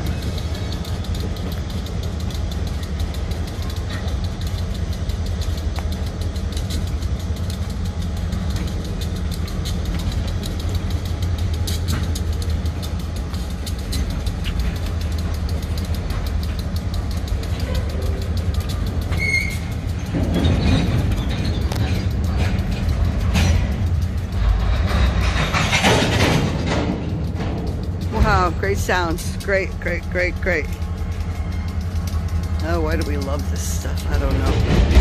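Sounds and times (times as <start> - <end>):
diesel locomotive rumble: 0.0 - 35.0
tank cars rolling past: 0.0 - 35.0.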